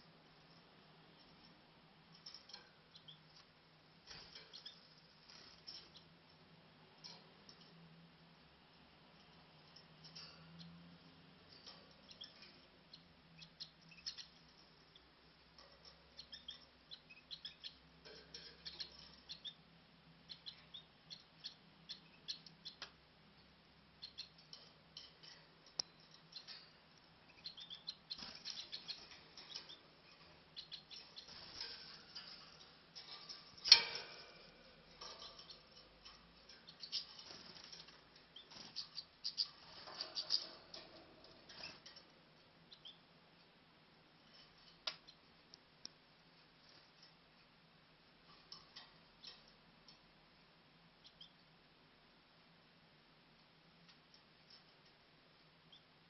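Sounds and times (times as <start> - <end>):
small birds chirping: 0.0 - 51.6, 53.6 - 56.0.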